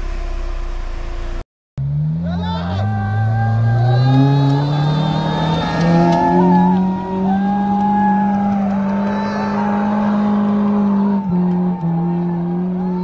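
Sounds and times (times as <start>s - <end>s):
engine revving hard: 1.8s - 13.0s.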